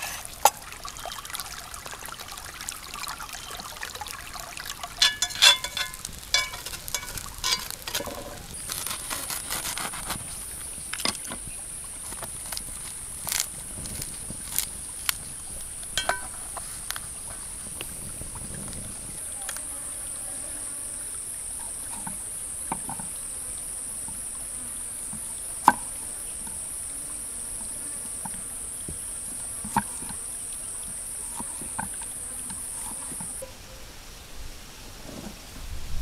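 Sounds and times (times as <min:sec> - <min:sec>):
insects chirring: 0:03.2 - 0:33.5.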